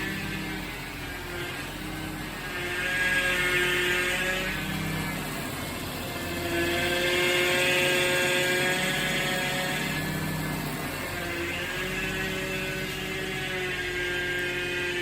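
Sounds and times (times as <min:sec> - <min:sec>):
car engine idling: 0:00.0 - 0:13.0
power steering pump whining: 0:00.0 - 0:15.0.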